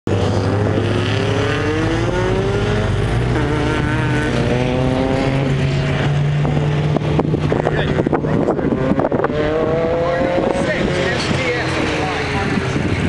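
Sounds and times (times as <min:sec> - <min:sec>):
car engine accelerating hard: 0:00.1 - 0:13.0.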